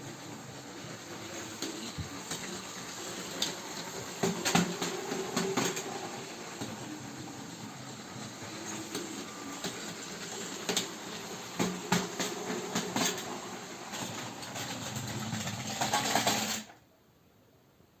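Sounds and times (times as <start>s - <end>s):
train clicking on plastic track: 0.0s - 16.8s
toy train motor whirring: 0.2s - 16.7s.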